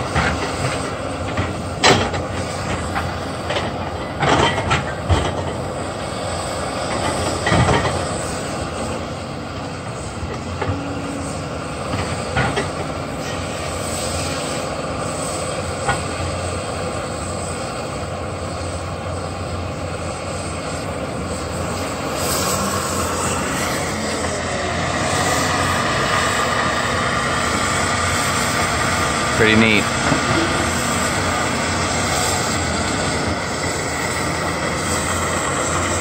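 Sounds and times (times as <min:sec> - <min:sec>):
diesel engine and hydraulics: 0:00.0 - 0:36.0.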